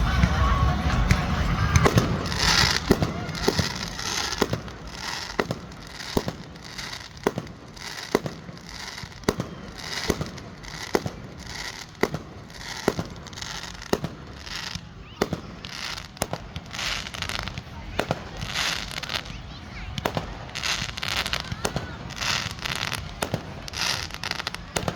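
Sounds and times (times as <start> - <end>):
continuous noisy wash: 0.0 - 24.9
fireworks bangs: 0.0 - 24.9.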